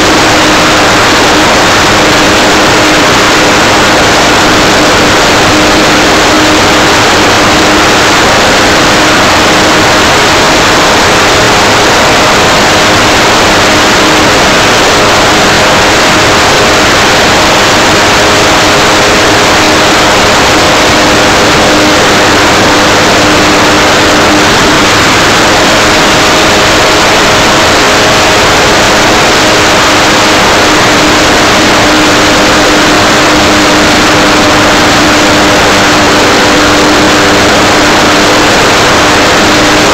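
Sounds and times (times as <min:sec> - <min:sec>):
model plane propeller and motor: 0:00.0 - 0:39.9.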